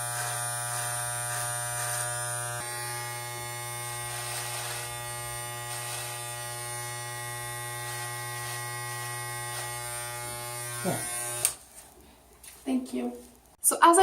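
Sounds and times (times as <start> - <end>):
electric hair clippers buzzing: 0.0 - 11.6
hiss of clippers cutting hair: 0.0 - 11.6.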